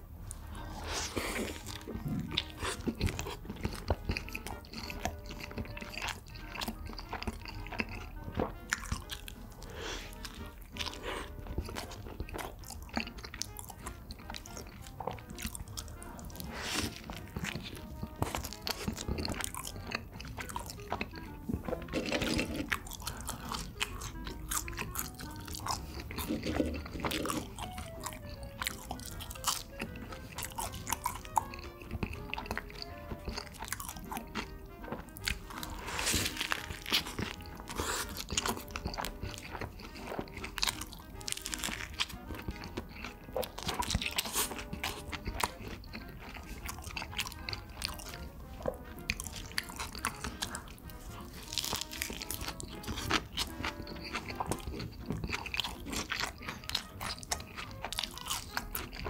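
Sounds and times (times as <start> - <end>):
person chewing burger: 0.0 - 59.0.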